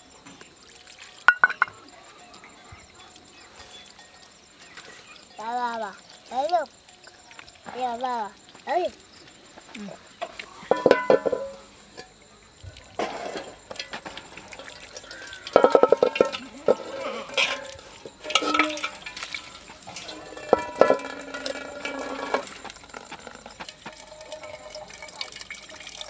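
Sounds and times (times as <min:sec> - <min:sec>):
water splashing in a basin: 0:00.0 - 0:26.0
metal bowls clinking: 0:01.1 - 0:07.8, 0:10.0 - 0:12.3, 0:12.9 - 0:26.0.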